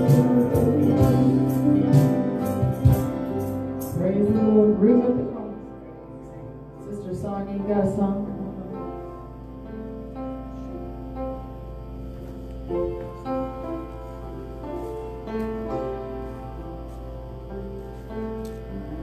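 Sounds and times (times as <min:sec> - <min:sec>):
electronic keyboard piano chords: 0:00.0 - 0:19.0.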